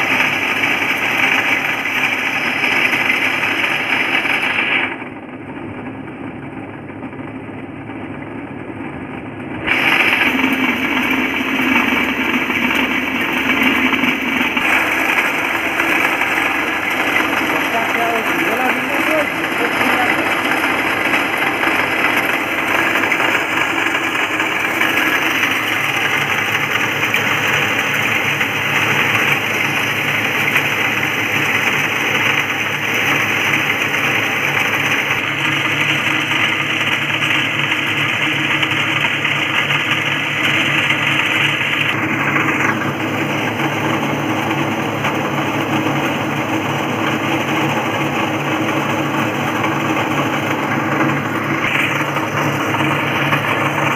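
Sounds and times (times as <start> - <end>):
grain pouring from chute: 0.0 - 5.0, 9.6 - 53.9
rice huller running: 0.0 - 53.9.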